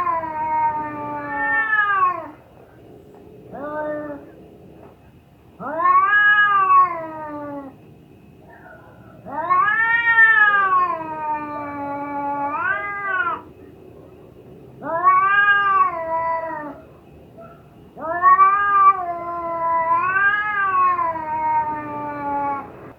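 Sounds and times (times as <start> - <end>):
cat yowling: 0.0 - 2.4, 3.5 - 4.4, 5.6 - 7.8, 8.5 - 13.5, 14.8 - 22.9.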